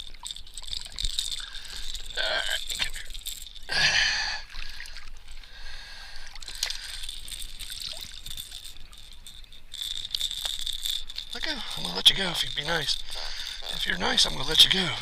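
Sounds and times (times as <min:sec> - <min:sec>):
faint water sloshing: 0:00.0 - 0:15.0
water splashing: 0:00.0 - 0:15.0.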